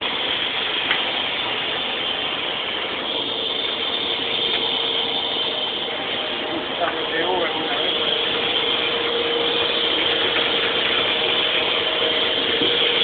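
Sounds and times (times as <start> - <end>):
lathe machining noise: 0.0 - 13.0.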